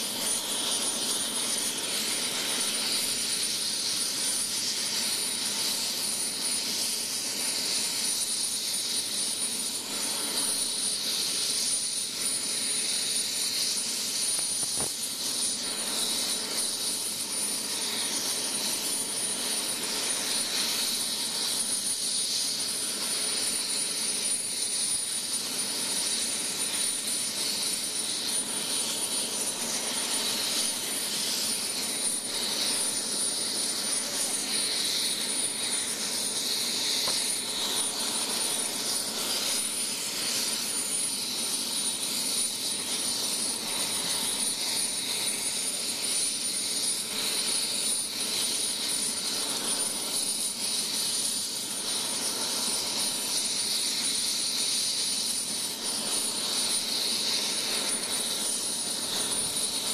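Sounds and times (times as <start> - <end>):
helicopter turbine whine: 0.0 - 59.9.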